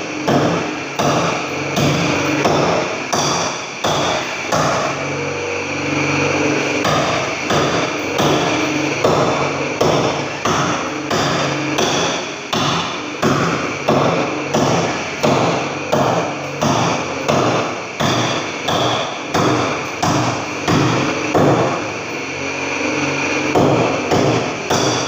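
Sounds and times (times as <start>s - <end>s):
hand tool striking masonry wall: 0.3s - 4.9s, 6.8s - 21.7s, 23.6s - 25.0s.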